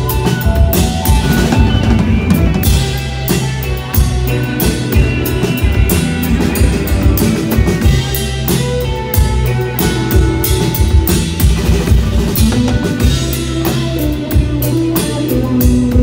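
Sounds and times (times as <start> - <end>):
electric guitar: 0.0 - 16.0
live rock band playing: 0.0 - 16.0.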